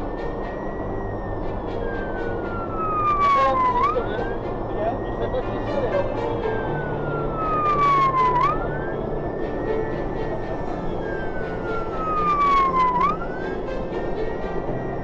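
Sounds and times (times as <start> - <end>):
fire engine siren wailing: 0.0 - 15.0
road noise: 0.0 - 15.0
truck engine: 0.0 - 15.0.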